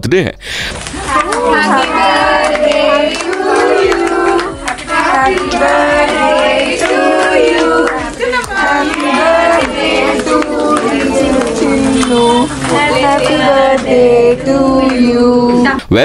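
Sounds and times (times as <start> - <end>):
people singing together: 0.9 - 15.9
hand claps: 1.1 - 14.1.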